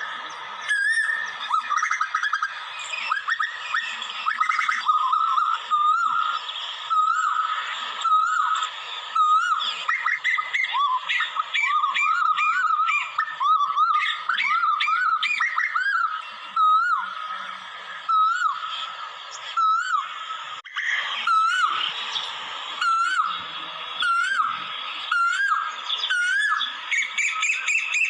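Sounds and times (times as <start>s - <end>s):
koel whistled calls: 0.0s - 28.0s.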